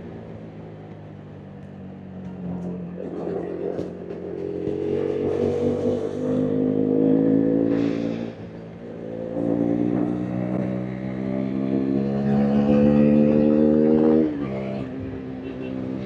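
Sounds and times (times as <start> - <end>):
motorcycle engine revving: 2.0 - 16.0.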